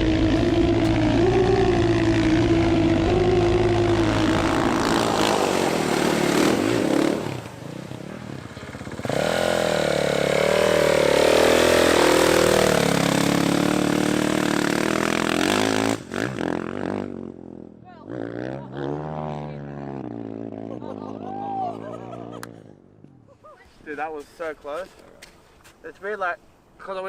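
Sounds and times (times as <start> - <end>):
dirtbike engine revving: 0.0 - 22.8.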